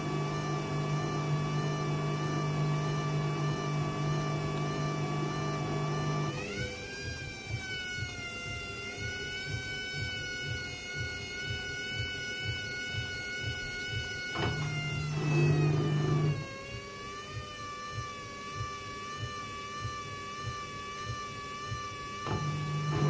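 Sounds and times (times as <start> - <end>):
washing machine motor whining: 0.0 - 23.0.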